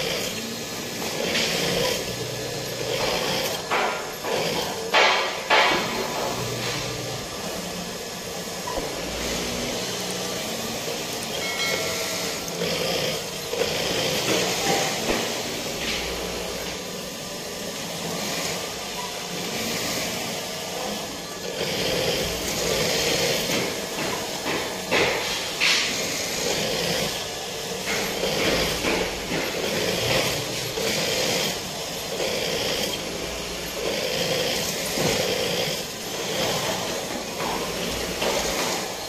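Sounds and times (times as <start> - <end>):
sewing machine running: 0.0 - 39.0.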